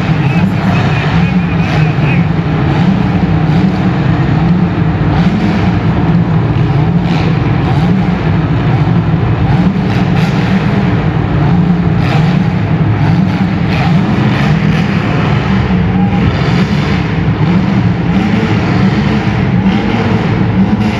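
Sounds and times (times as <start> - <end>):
car engines revving hard: 0.0 - 20.9.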